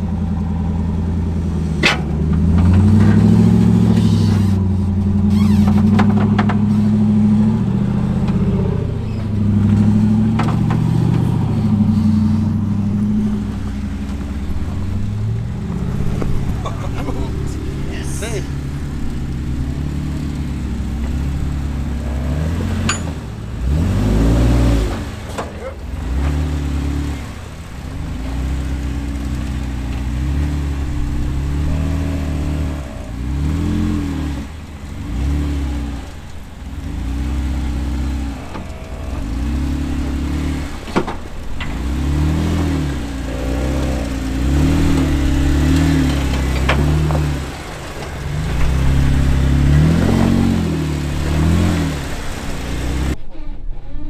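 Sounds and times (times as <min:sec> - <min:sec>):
car engine revving: 0:00.0 - 0:53.4.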